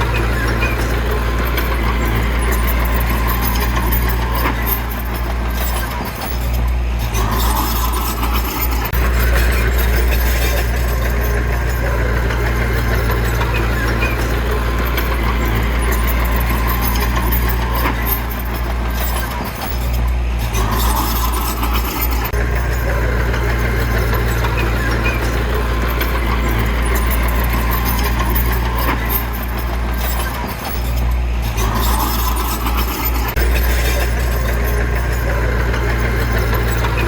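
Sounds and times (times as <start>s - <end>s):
heavy diesel engine running: 0.0s - 37.0s
rough mechanical noise: 0.0s - 37.0s.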